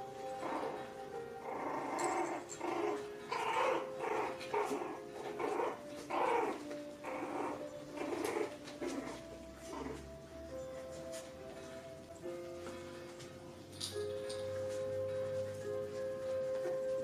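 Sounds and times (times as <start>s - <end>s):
faint background music: 0.0s - 17.0s
puppies growling in play: 0.0s - 17.0s.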